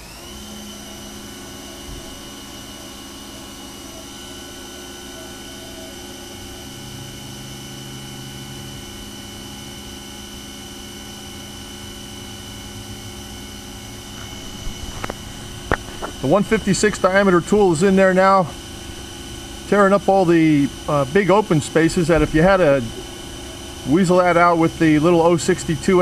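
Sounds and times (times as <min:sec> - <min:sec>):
coolant spraying: 0:00.0 - 0:26.0
milling machine spindle whine: 0:00.0 - 0:26.0.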